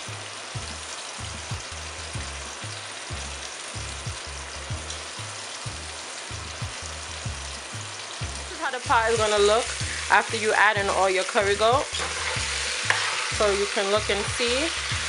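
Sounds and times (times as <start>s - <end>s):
background music with low beat: 0.0s - 15.0s
meat sizzling in hot oil: 0.0s - 15.0s.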